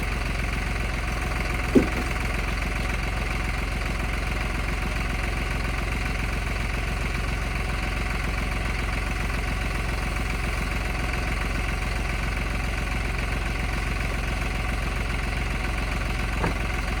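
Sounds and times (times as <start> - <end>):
tractor engine running steadily: 0.0 - 17.0.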